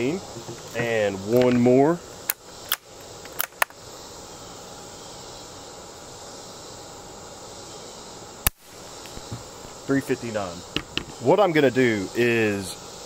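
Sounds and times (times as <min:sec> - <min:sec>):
insects humming: 0:00.0 - 0:13.0.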